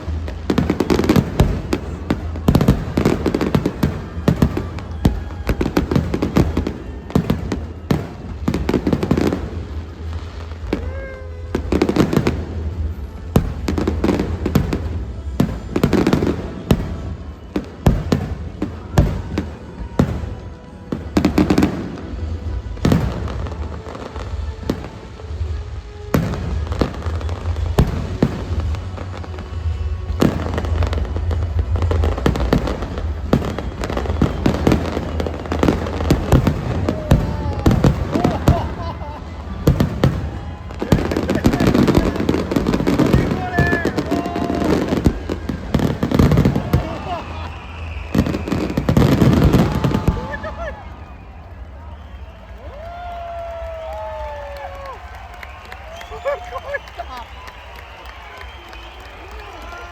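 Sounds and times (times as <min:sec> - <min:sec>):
music playing: 0:00.0 - 0:53.2
fireworks bangs: 0:00.0 - 0:59.9.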